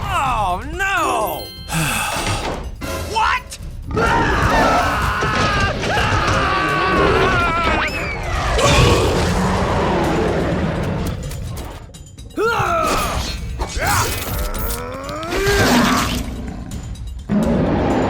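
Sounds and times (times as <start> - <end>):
background soundtrack music: 0.0 - 18.0.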